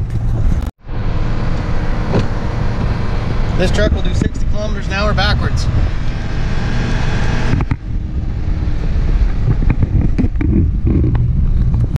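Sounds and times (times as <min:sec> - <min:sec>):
engine and road rumble: 0:00.0 - 0:12.0
wind noise: 0:00.0 - 0:12.0.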